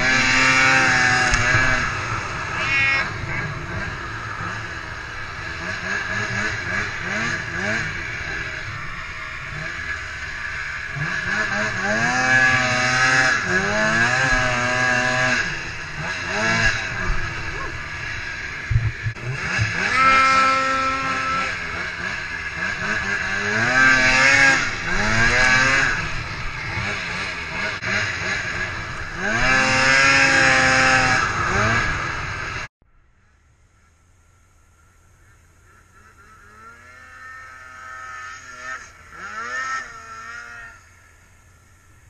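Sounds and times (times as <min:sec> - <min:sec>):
snowmobile engine revving: 0:00.0 - 0:32.7, 0:34.7 - 0:42.0.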